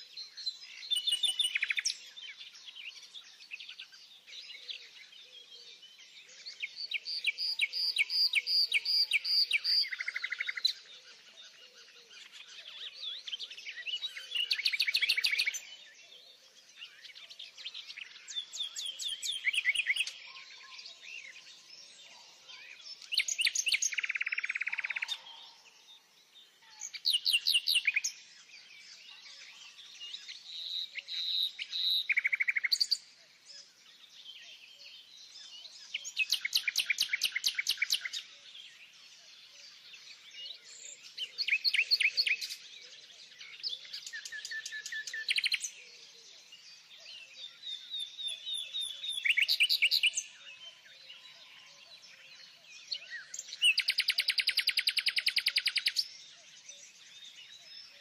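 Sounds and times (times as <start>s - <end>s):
faint bird chirps: 0.0s - 58.0s
songbirds trilling: 0.0s - 58.0s.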